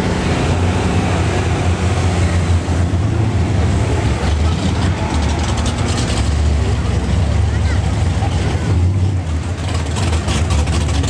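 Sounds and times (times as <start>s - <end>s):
deep truck engine rumble: 0.0s - 11.0s
vehicles driving slowly past: 0.0s - 11.0s.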